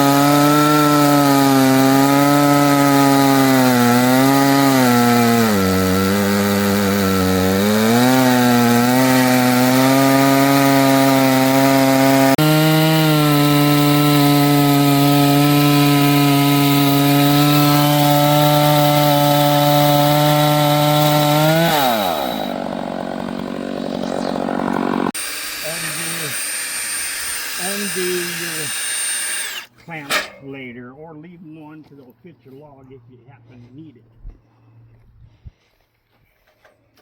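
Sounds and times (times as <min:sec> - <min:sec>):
chainsaw ripping a log: 0:00.0 - 0:29.8.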